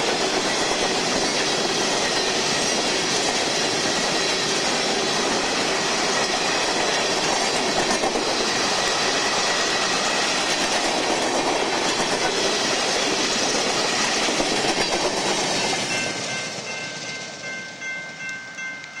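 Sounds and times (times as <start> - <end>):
freight cars rolling on rails: 0.0 - 19.0.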